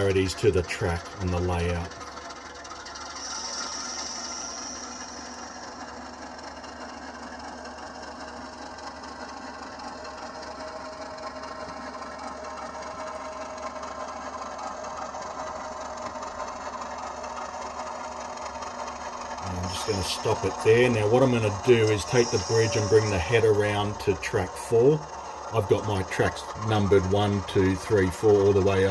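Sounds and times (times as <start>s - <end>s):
model diesel engine sound: 0.0s - 28.9s
small motor and gears whirring: 0.0s - 28.9s.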